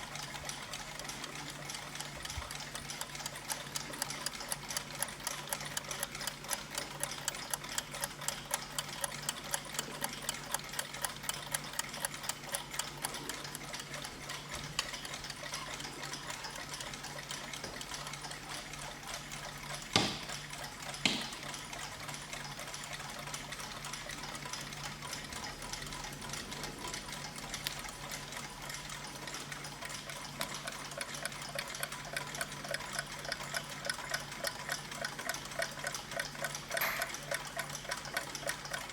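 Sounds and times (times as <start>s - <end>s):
mechanical clocks ticking: 0.0s - 38.9s.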